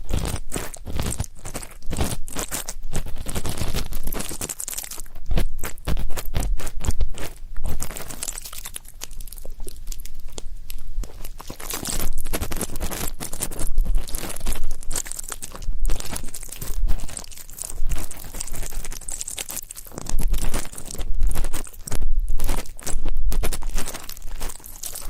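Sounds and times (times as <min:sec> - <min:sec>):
ear pick scratching microphone: 0:00.0 - 0:25.0.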